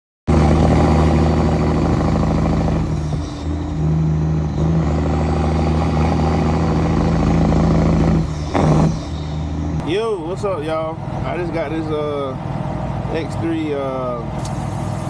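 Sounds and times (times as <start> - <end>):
diesel truck engine running: 0.3 - 15.0.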